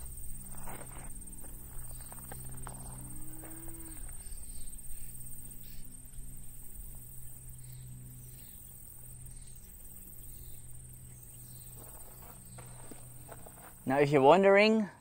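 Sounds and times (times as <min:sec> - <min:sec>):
high insect trill: 0:00.0 - 0:14.4
low steady hum: 0:00.0 - 0:15.0.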